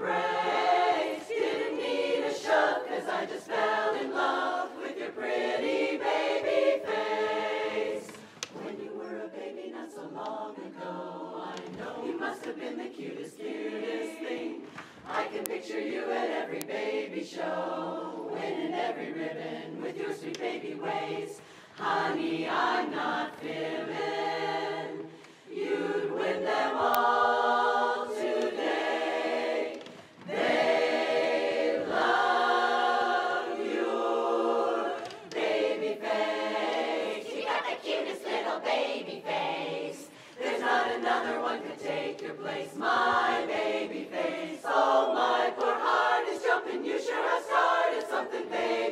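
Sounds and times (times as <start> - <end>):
women's chorus singing a cappella: 0.0 - 48.9.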